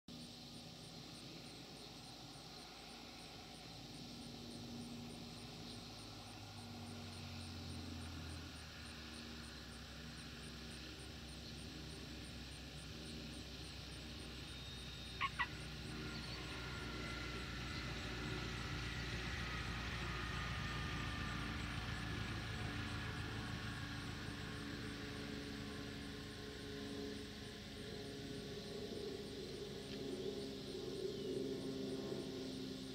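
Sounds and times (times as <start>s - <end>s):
propeller plane engine drone: 0.1s - 32.9s.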